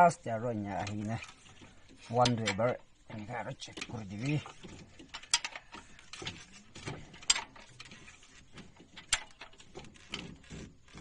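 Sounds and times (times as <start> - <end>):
hand tools clicking on engine: 0.4 - 11.0.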